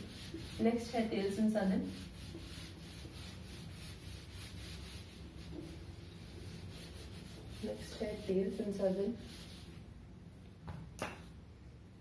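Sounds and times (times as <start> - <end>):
duster rubbing on whiteboard: 0.0 - 9.9
steady low hum: 0.0 - 12.0.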